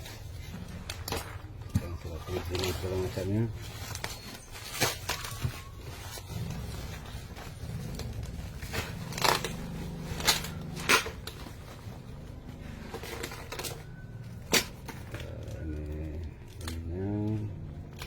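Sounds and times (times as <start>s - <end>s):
packaging rustling and scraping: 0.0s - 18.0s.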